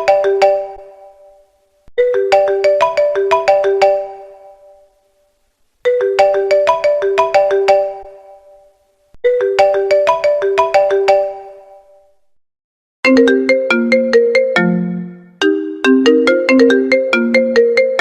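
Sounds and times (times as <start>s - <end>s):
marimba ringtone: 0.0s - 1.2s, 2.0s - 4.9s, 5.9s - 8.6s, 9.2s - 11.9s, 13.0s - 18.0s
lower-pitched ringtone melody: 0.0s - 5.0s, 5.9s - 12.1s, 13.1s - 18.0s.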